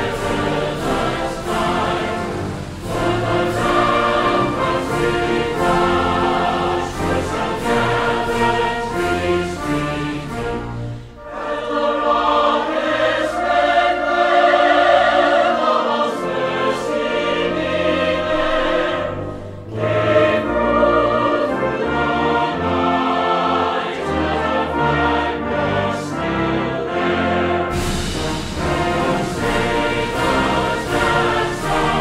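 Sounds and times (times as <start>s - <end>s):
choir singing with orchestra: 0.0s - 32.0s.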